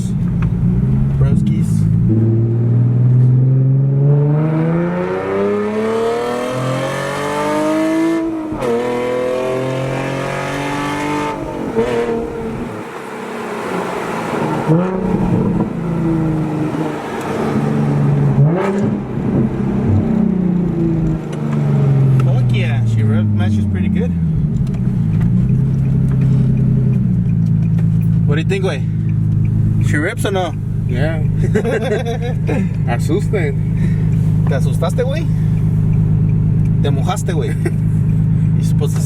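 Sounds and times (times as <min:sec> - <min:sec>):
car engine revving through gears: 0:00.0 - 0:39.0.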